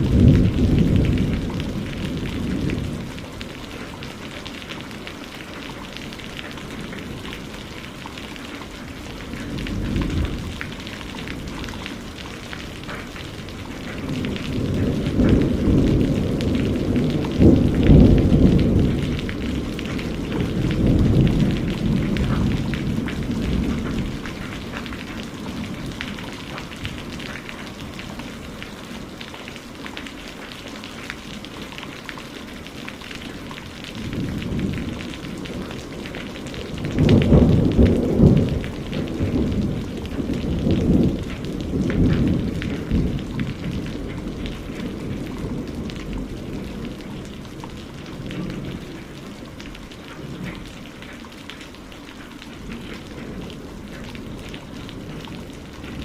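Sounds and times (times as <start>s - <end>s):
thunder rumbling: 0.0s - 29.2s, 33.2s - 50.7s
steady rain falling: 0.0s - 56.0s.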